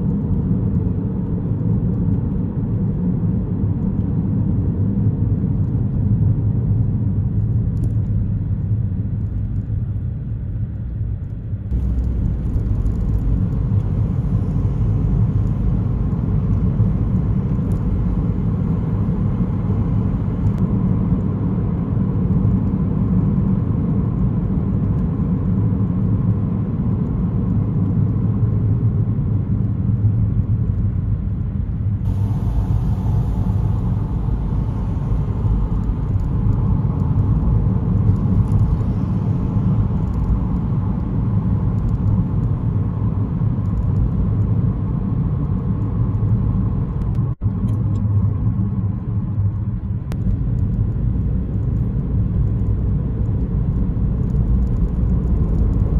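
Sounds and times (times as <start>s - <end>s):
car driving heard from inside: 0.0s - 55.9s.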